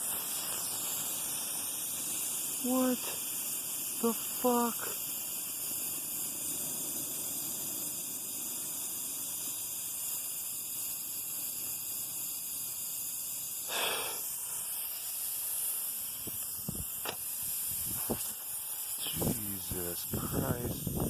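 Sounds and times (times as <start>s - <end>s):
air hissing from tire: 0.0s - 21.0s.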